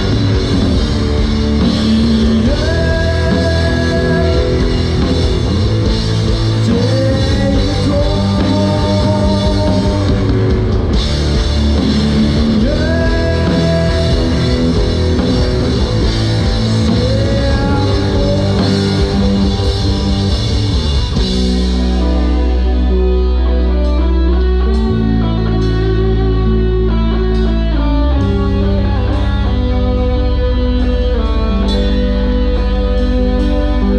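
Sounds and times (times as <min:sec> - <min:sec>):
drum kit: 0:00.0 - 0:33.9
electric guitar lead lines: 0:00.0 - 0:33.9
live rock band playing: 0:00.0 - 0:33.9.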